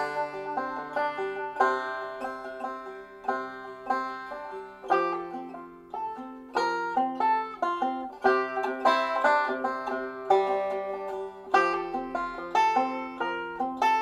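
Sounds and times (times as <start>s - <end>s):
banjo picking: 0.0s - 14.0s
held bass notes: 0.0s - 14.0s.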